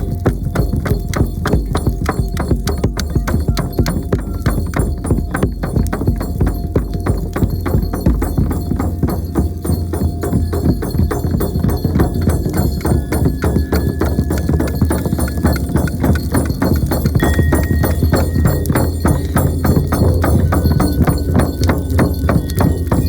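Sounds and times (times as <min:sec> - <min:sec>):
frame drum beating fast: 0:00.0 - 0:23.0.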